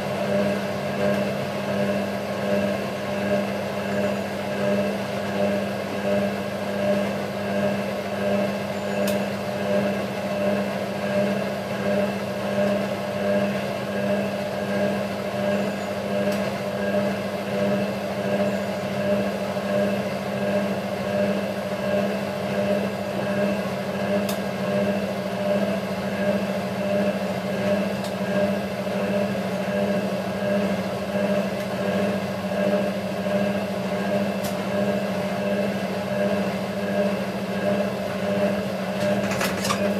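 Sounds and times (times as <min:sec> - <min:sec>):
drain pump humming: 0:00.0 - 0:39.9.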